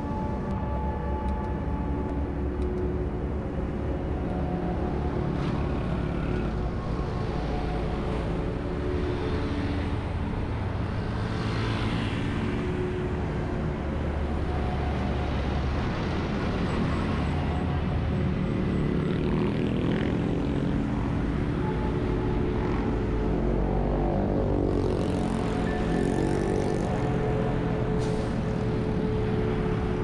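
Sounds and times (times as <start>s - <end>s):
highway traffic rumble: 0.0s - 30.0s.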